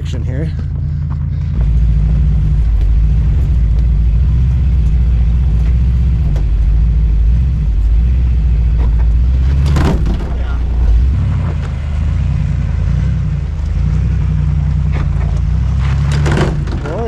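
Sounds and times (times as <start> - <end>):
van engine rumbling under load: 0.0 - 17.0.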